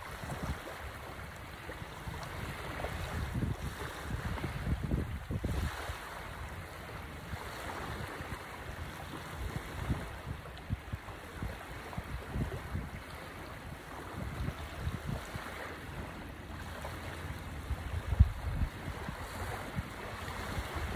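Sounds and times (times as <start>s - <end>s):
small waves lapping on shore: 0.0s - 20.9s
wind gusts on microphone: 0.0s - 20.9s.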